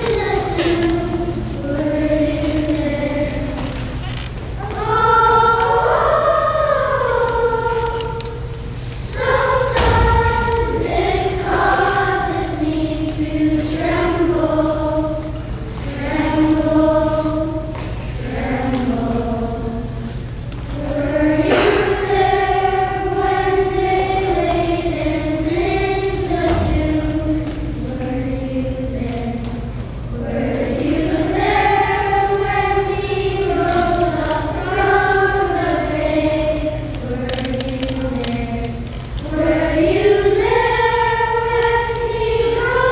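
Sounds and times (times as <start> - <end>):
children's choir singing: 0.0 - 42.9.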